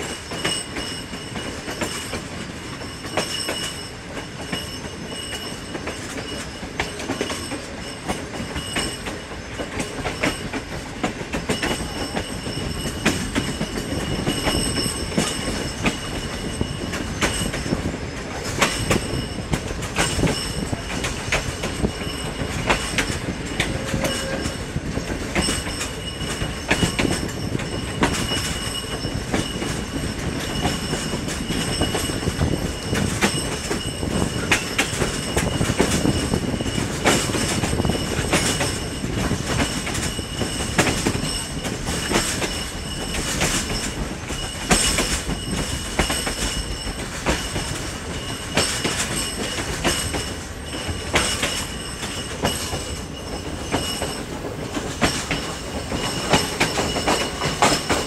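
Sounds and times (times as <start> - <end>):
high wheel squeal: 0.0 - 10.5, 11.4 - 58.0
train rumble: 0.0 - 58.0
train wheels clattering over rail joints: 0.0 - 58.0.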